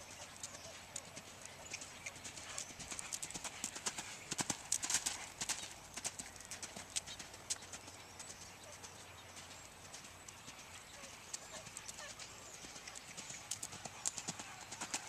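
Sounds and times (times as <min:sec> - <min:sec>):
horse hoofbeats on dirt: 0:00.0 - 0:15.0.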